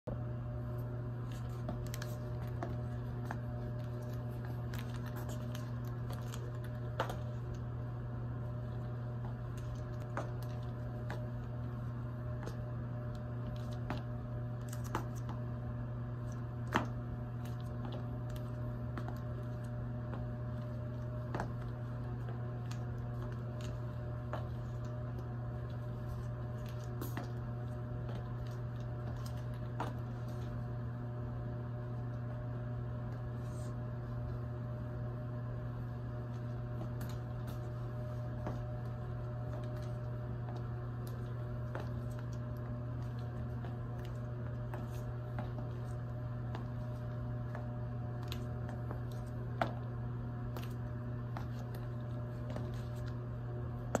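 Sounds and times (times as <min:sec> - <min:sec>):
steady low hum: 0:00.1 - 0:54.0
high heels clicking on tile: 0:01.1 - 0:07.7, 0:08.4 - 0:30.9, 0:36.1 - 0:54.0.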